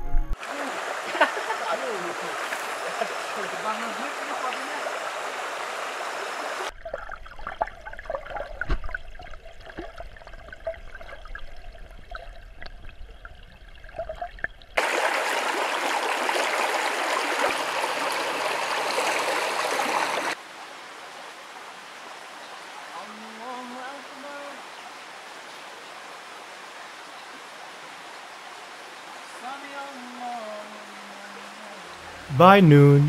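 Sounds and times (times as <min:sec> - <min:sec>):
rushing water: 0:00.4 - 0:12.9, 0:13.5 - 0:33.0.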